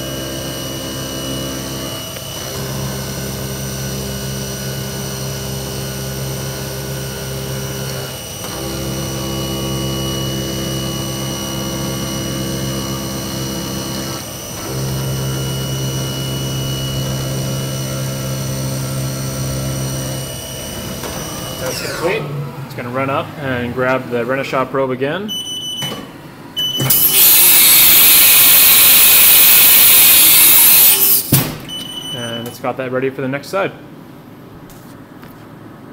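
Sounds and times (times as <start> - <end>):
mill spindle humming: 0.0 - 32.6.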